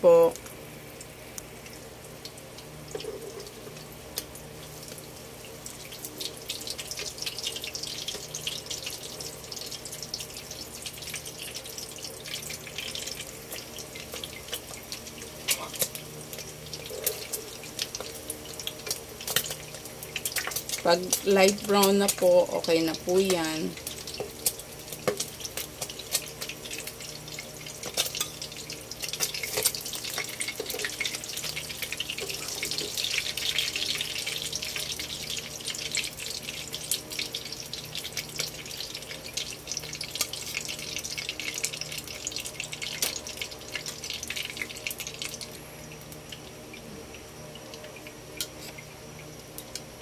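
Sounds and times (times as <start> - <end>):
hot oil sizzling in a frying pan: 0.0 - 50.0.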